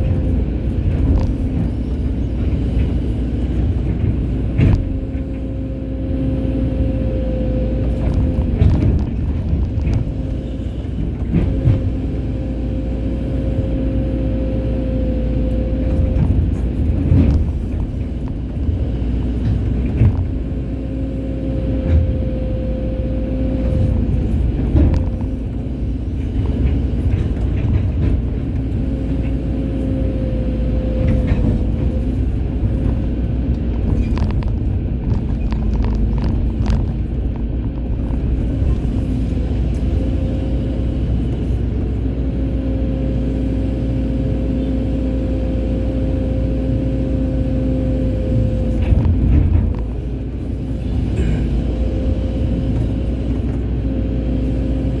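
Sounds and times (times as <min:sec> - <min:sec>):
excavator diesel engine rumbling: 0:00.0 - 0:55.0.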